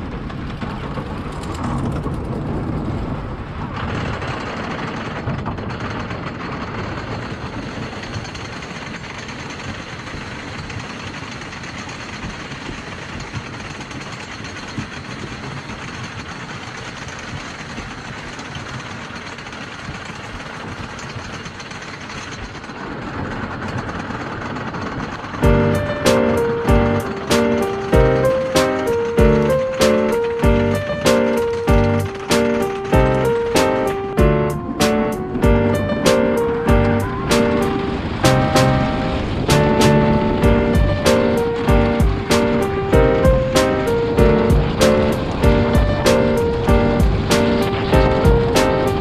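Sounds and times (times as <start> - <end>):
roller coaster rumbling on track: 0.0 - 49.0.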